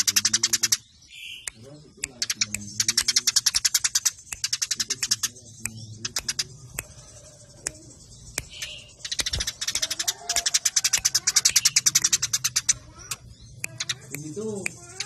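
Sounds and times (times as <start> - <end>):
sparrows chirping: 0.0 - 15.0.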